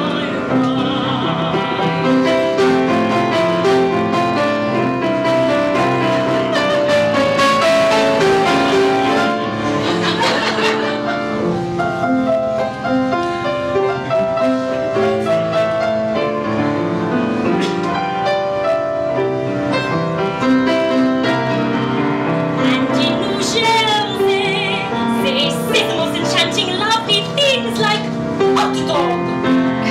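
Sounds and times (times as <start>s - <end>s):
grand piano playing: 0.0s - 29.9s.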